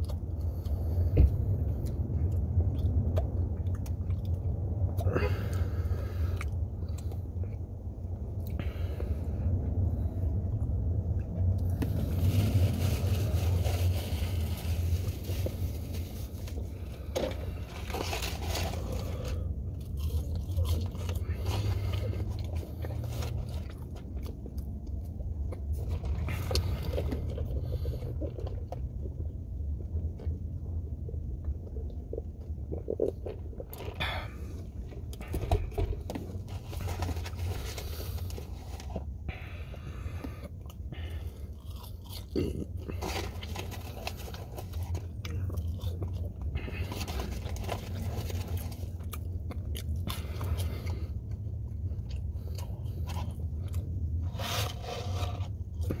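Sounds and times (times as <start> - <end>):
low hum: 0.0 - 56.0
person chewing crunchy food: 0.0 - 56.0.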